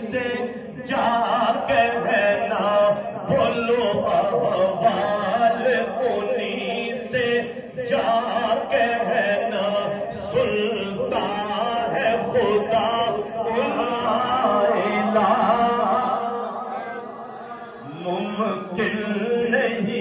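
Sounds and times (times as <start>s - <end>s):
devotional chanting: 0.0s - 20.0s.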